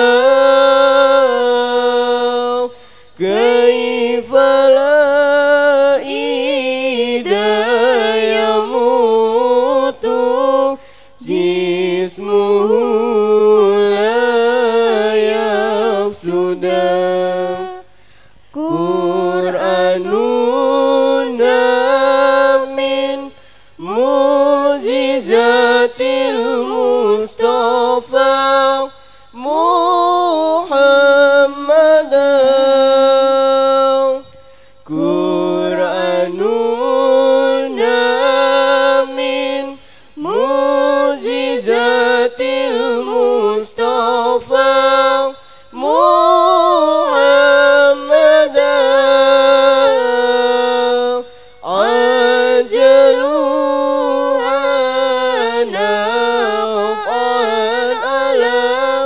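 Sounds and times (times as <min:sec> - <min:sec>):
woman chanting a cappella: 0:00.0 - 0:17.9, 0:18.6 - 0:34.3, 0:34.9 - 0:59.0.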